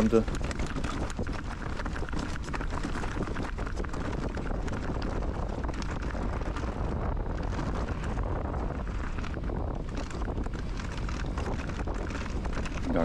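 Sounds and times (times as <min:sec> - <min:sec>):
bike knocks and rattles: 0:00.0 - 0:13.0
tyre rumble: 0:00.0 - 0:13.0
wind buffeting microphone: 0:00.0 - 0:13.0.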